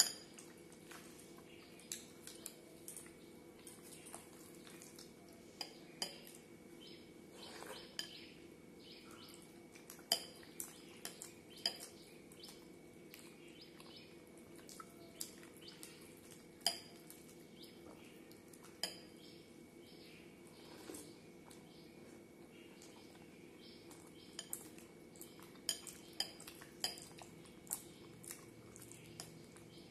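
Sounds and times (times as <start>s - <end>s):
soft wet eating sounds: 0.0s - 29.9s.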